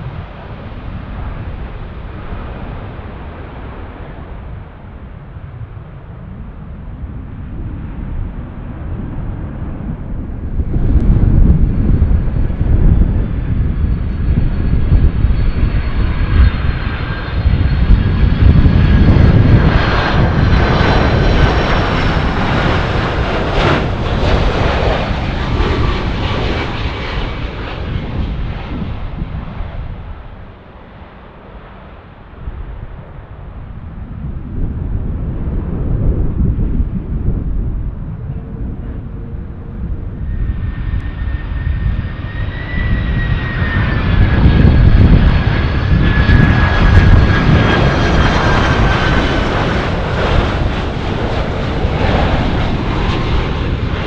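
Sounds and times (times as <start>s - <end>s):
jet airliner passing low: 0.0s - 54.0s
wind rumbling on microphone: 0.0s - 54.0s.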